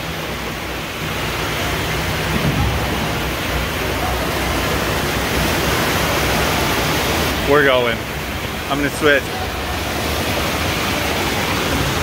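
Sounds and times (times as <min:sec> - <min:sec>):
water rushing in waterslide: 0:00.0 - 0:12.0.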